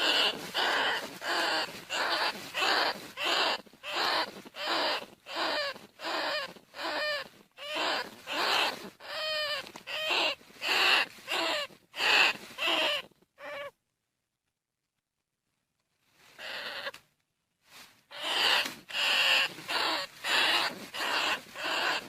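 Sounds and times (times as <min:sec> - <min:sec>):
rat squealing calls: 0:00.0 - 0:13.8, 0:16.4 - 0:17.0, 0:18.1 - 0:22.0.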